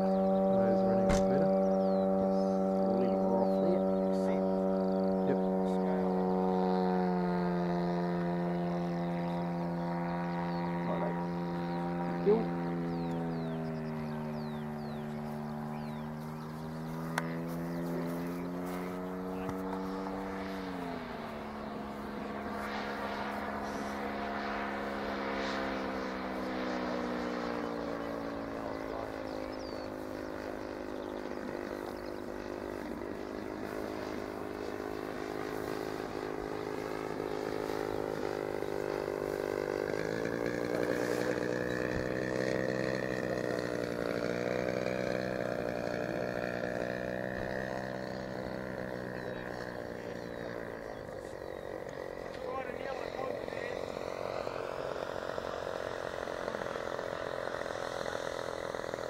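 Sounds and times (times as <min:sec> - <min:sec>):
distant model plane engine drone: 0:00.0 - 0:59.0.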